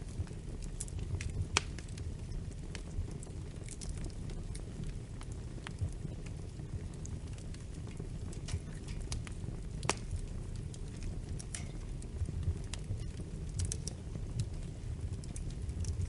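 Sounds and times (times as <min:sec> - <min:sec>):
fire crackles and pops: 0:00.0 - 0:16.0
fire low rumble: 0:00.0 - 0:16.0.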